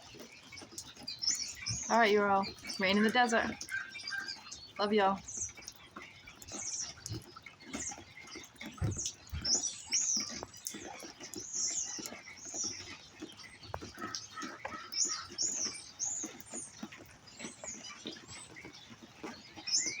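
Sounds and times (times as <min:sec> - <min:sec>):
rain pattering: 0:00.0 - 0:20.0
small birds chirping: 0:00.0 - 0:20.0.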